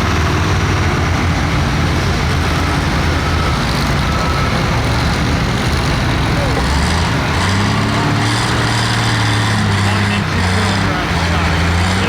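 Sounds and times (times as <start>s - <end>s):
diesel tractor engine rumbling: 0.0s - 12.0s.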